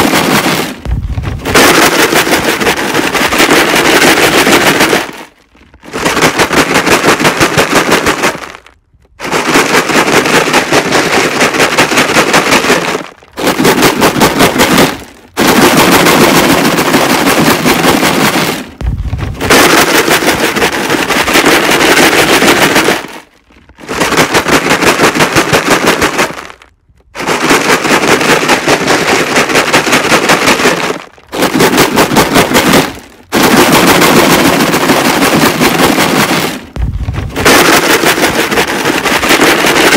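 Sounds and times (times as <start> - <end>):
stones rattling in plastic jug: 0.0 - 39.9.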